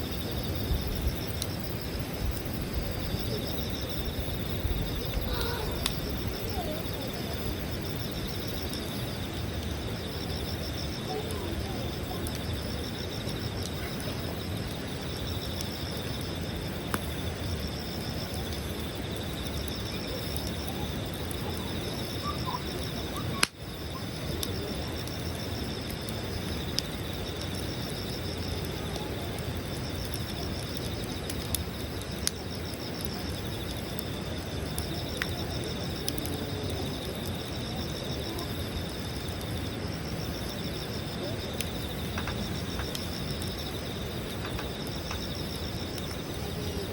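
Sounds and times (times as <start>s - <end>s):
campfire crackling and popping: 0.0s - 46.9s
insects chirping: 0.0s - 46.9s.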